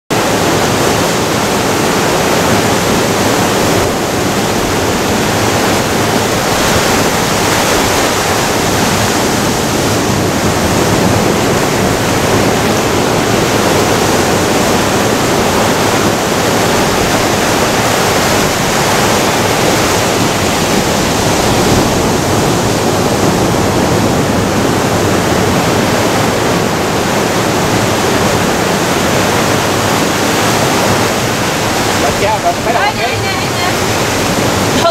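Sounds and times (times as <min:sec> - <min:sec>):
ocean surf breaking on rocks: 0:00.1 - 0:34.9.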